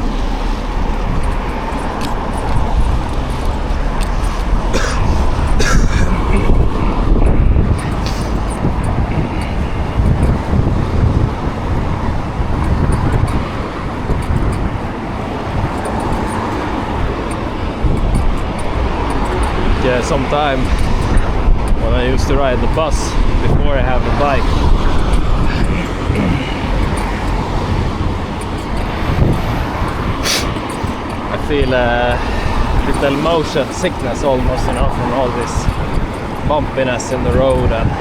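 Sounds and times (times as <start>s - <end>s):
road and traffic rumble: 0.0s - 38.0s.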